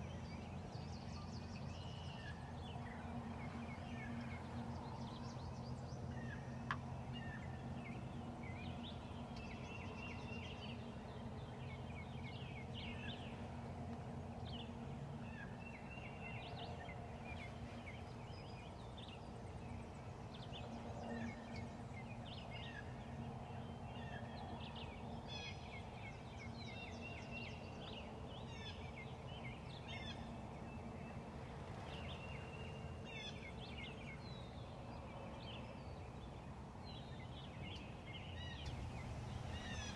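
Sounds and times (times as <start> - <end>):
songbirds chirping: 0.0 - 39.9
steady low hum: 0.0 - 39.9.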